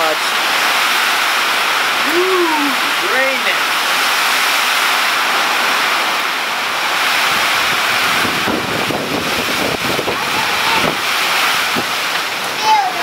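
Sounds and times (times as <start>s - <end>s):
heavy rain falling: 0.0s - 13.0s
wind buffeting microphone: 0.4s - 13.0s.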